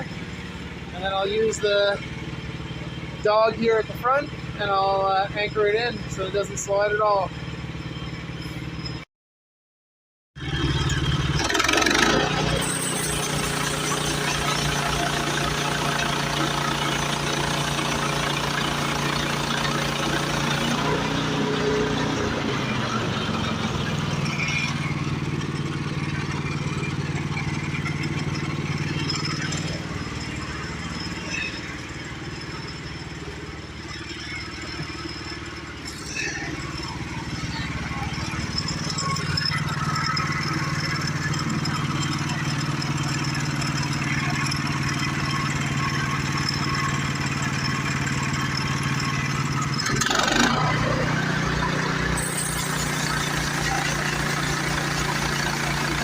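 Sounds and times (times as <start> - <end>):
small gasoline engine running: 0.0 - 9.0, 10.4 - 56.0.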